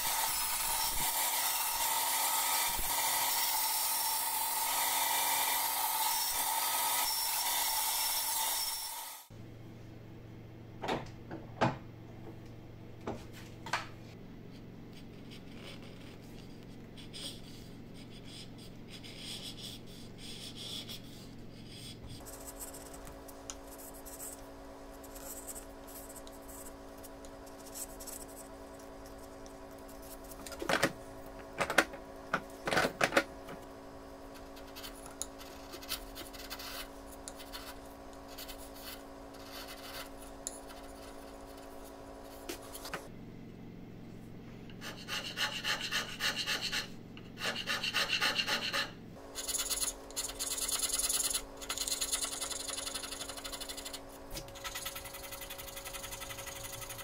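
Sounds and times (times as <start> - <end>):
steady low hum: 9.3 - 57.0.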